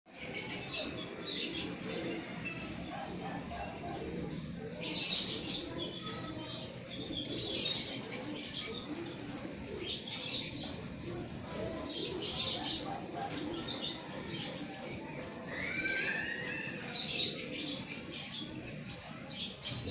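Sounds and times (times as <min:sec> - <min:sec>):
pigeons cooing: 0:00.1 - 0:19.9.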